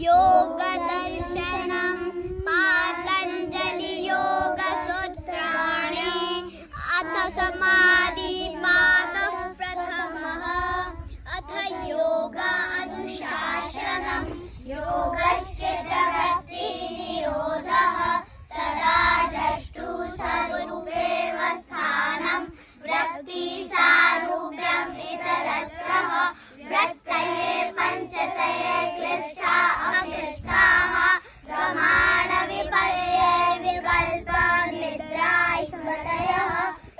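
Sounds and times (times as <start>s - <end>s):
children singing a prayer: 0.0s - 36.9s.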